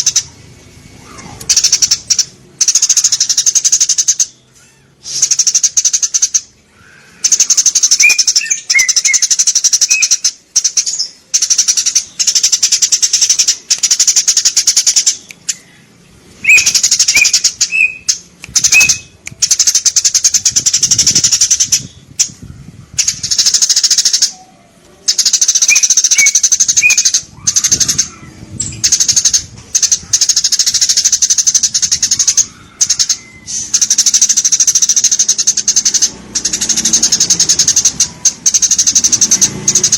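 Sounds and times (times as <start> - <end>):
sparrows chirping: 1.2 - 39.9.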